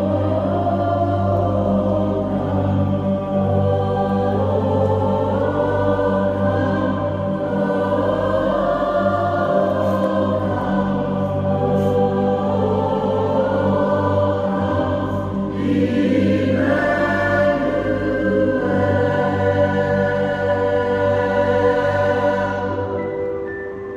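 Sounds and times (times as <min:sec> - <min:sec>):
choir singing: 0:00.0 - 0:23.9.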